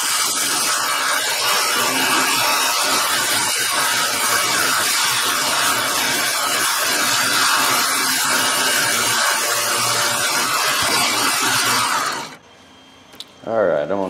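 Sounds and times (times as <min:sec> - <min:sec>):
belt sander grinding metal: 0:00.0 - 0:12.4
motor hum: 0:00.0 - 0:13.3.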